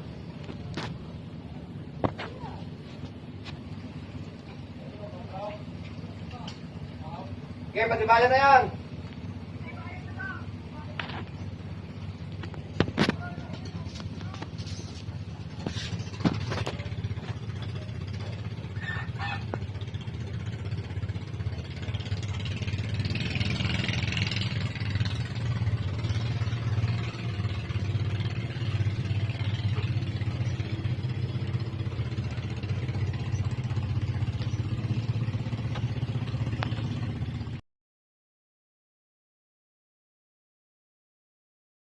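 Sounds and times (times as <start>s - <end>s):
engine humming: 0.0s - 37.6s.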